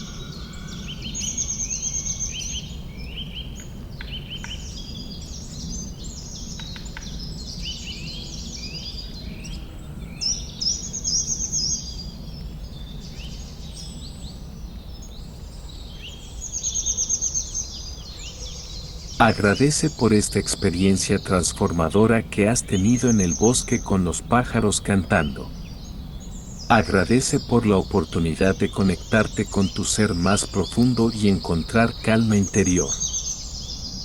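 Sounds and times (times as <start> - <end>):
songbirds singing: 0.0 - 34.0.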